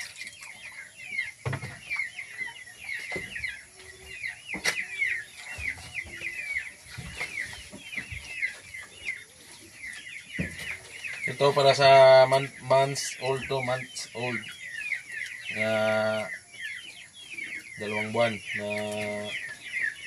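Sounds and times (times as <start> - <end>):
chickens calling: 0.0 - 20.0
chicks peeping: 0.0 - 20.0.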